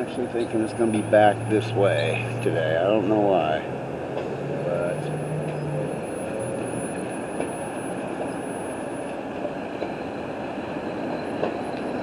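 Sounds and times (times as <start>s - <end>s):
city background noise: 0.0s - 12.0s.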